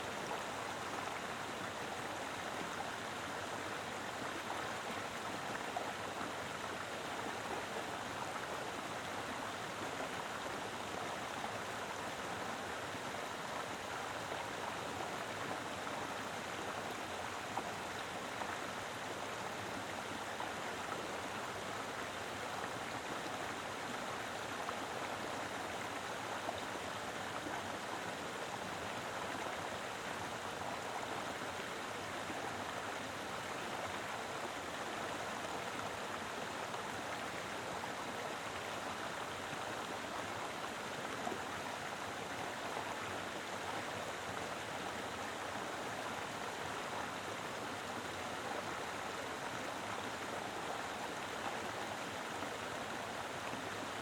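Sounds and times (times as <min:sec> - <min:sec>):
river flowing over rocks: 0:00.0 - 0:54.0.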